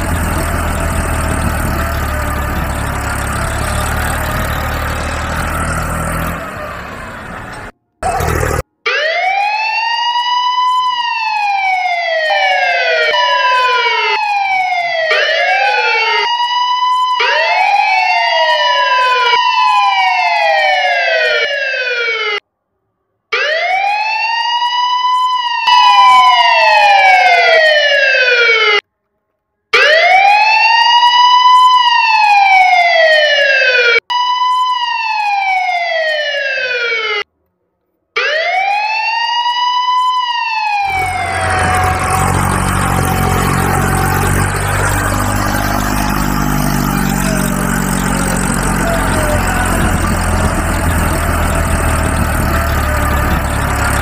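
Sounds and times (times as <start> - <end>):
electronic police siren wail: 0.0 - 22.4, 23.3 - 28.8, 29.7 - 37.3, 38.2 - 54.0.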